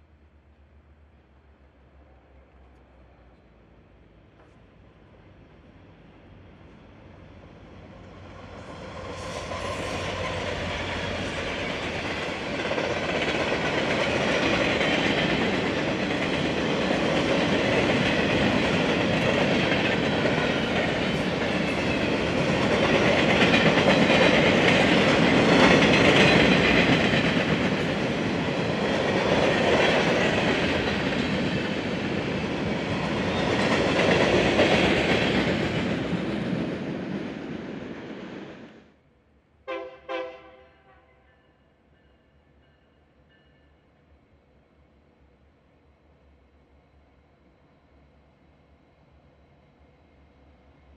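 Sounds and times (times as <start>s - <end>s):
diesel locomotives passing: 0.0s - 39.0s, 39.7s - 44.4s.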